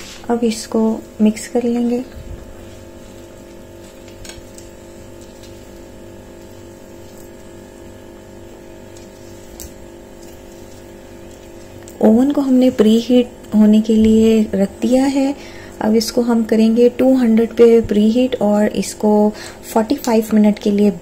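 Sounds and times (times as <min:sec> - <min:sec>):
steady hum of fixed tones: 0:00.0 - 0:21.0.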